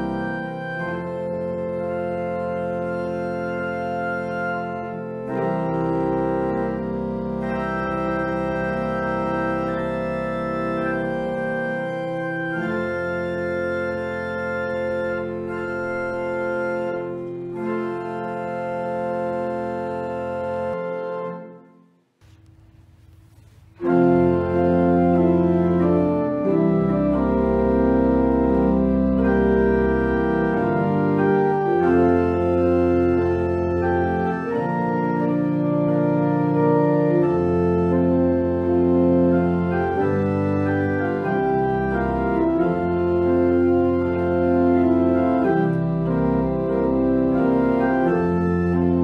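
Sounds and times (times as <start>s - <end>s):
organ chords: 0.0s - 49.0s.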